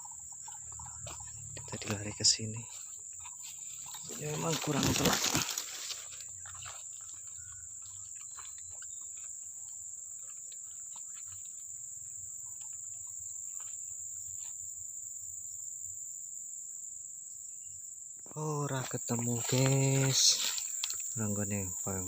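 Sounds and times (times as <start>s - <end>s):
faint ticks and rustles: 0.0s - 15.4s, 18.2s - 22.0s
crickets chirping: 0.0s - 22.0s.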